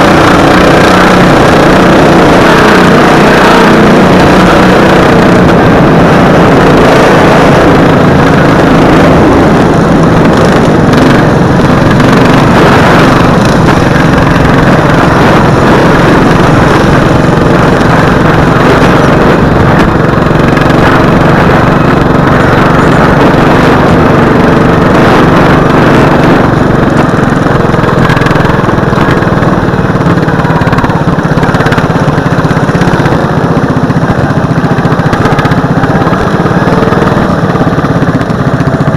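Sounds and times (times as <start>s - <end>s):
lawn mower engine running hard: 0.0s - 38.9s.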